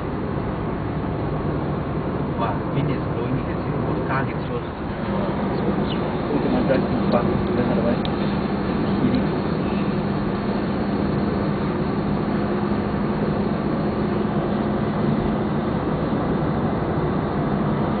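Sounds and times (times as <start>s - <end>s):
car road noise: 0.0s - 18.0s
tyre and engine drone: 0.0s - 18.0s.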